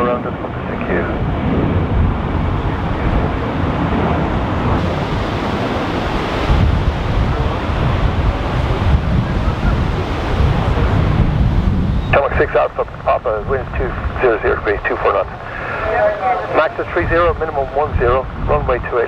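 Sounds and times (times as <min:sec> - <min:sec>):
gusty wind buffeting microphone: 0:00.0 - 0:19.0
jet aircraft climbing: 0:00.0 - 0:19.0.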